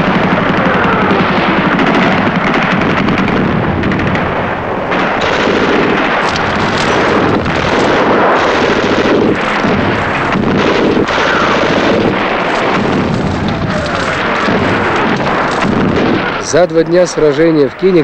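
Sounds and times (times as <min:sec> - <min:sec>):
rifle and machine-gun fire: 0:00.0 - 0:17.4
shell explosions: 0:00.0 - 0:18.0.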